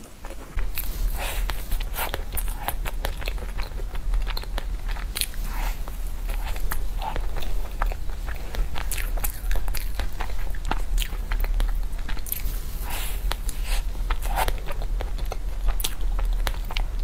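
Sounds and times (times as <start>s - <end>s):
biting and chewing pastry: 0.0s - 17.0s.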